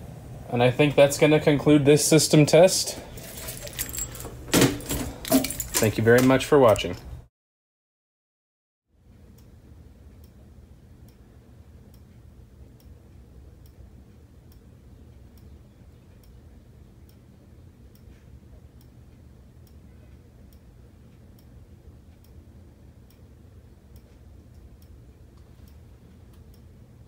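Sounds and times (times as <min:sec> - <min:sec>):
low steady hum: 0:00.0 - 0:07.3, 0:08.9 - 0:27.0.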